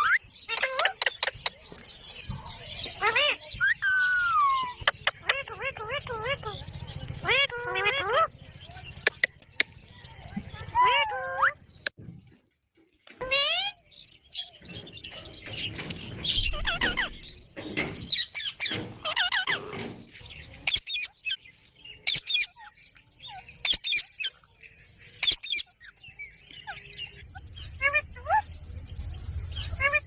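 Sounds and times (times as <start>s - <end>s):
parrots calling: 0.0s - 1.6s, 2.8s - 9.7s, 10.6s - 12.0s, 13.2s - 14.6s, 15.2s - 28.6s, 29.5s - 30.0s.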